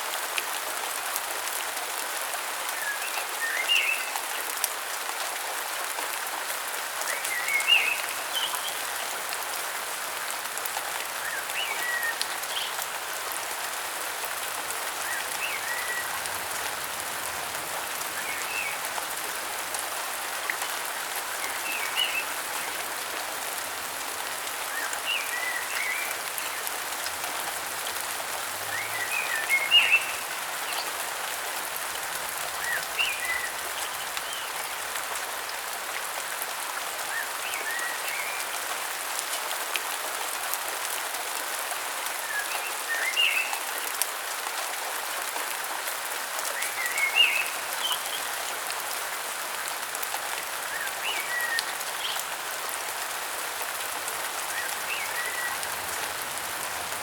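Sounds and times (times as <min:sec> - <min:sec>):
rain hissing on foliage: 0:00.0 - 0:57.0.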